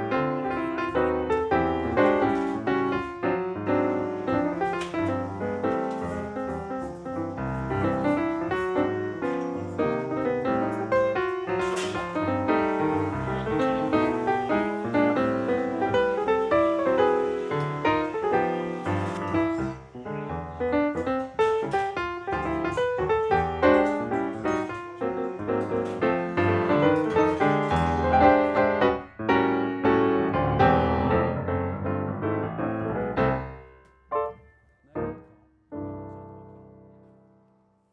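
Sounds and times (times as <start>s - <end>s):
piano music: 0.0s - 37.9s.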